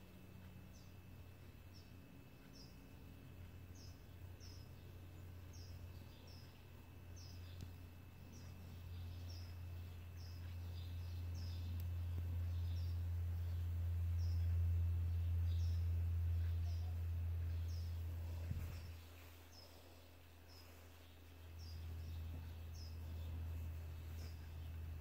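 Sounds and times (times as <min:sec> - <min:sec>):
low steady hum: 0:00.0 - 0:25.0
bird chirping: 0:00.3 - 0:25.0.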